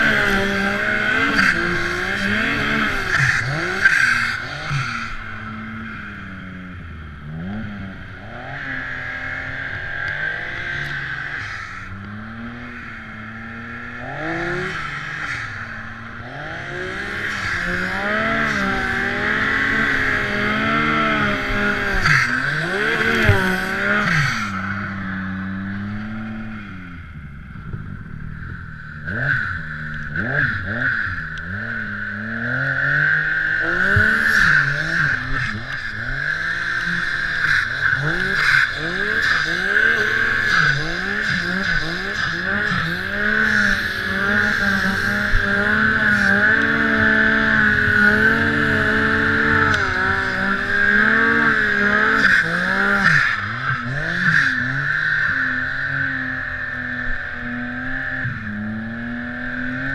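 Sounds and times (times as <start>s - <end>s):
snowmobile engine revving: 0.0s - 27.6s, 28.7s - 59.9s.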